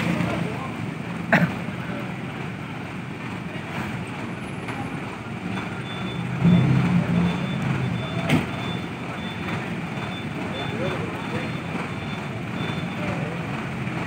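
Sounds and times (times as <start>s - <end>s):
heavy truck engines running: 0.0s - 14.0s.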